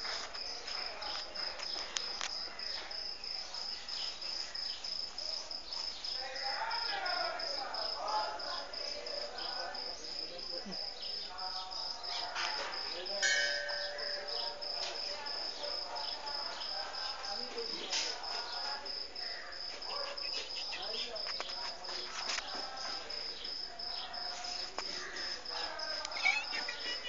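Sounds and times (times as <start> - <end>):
faint distant voices: 0.0 - 27.0
high-pitched insect trill: 1.1 - 27.0.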